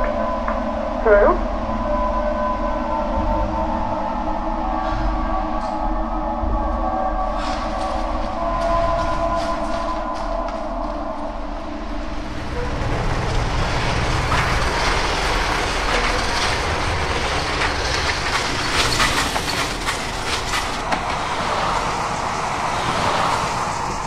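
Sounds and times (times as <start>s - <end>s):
steady rumbling rushing noise: 2.8s - 24.0s.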